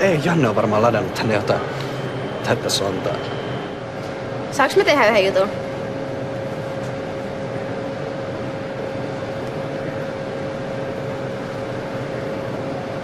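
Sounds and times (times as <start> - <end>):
mid-pitched whine: 0.0 - 13.0
standing train hum: 0.0 - 13.0.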